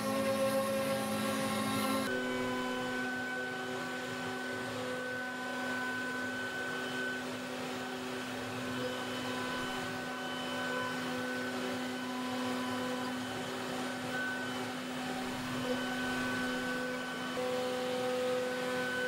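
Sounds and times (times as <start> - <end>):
electric machine hum: 0.0 - 19.0.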